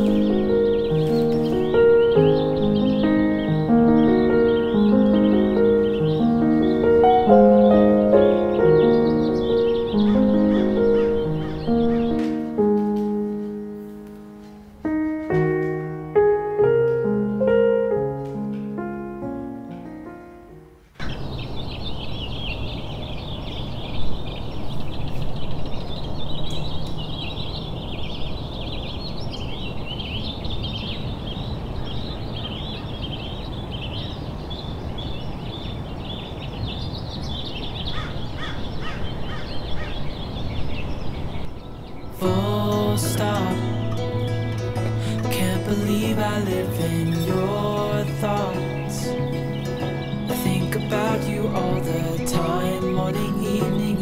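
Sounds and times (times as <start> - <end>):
soft piano music: 0.0 - 21.5, 24.0 - 31.5, 38.8 - 54.0
songbirds chirping: 0.0 - 54.0.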